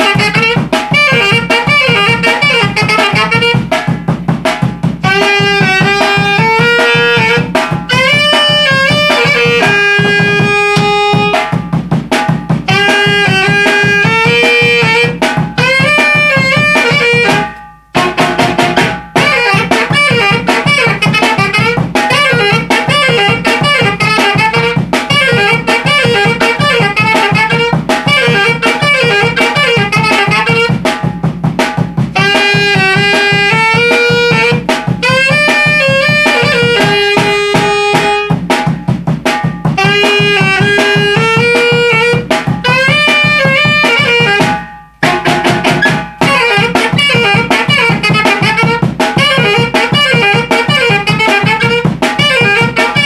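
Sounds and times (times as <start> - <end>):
large drum beat: 0.0 - 53.0
saxophone melody: 0.0 - 53.0
snare drum: 0.0 - 53.0.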